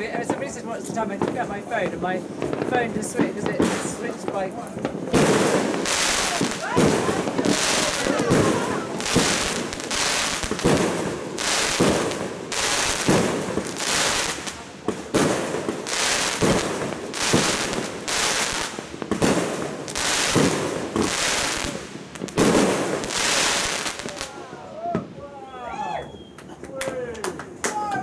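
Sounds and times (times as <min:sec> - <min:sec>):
firecrackers crackling: 0:00.0 - 0:25.3
fireworks bangs: 0:00.0 - 0:25.6.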